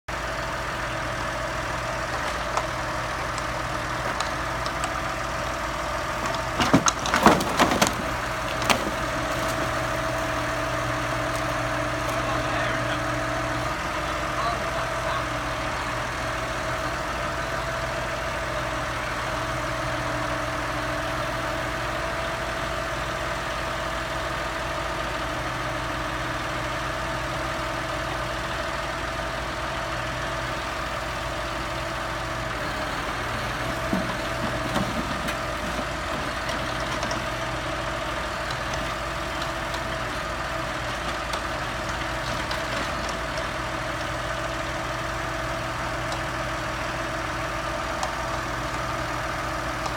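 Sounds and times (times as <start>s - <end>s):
tractor engine running: 0.1s - 49.9s.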